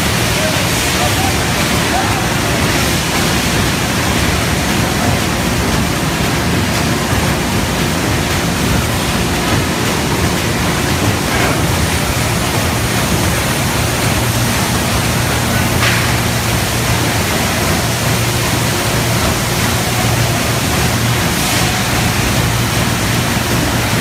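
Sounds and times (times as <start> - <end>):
low machine hum: 0.0 - 24.0
wrapping machine running: 0.0 - 24.0.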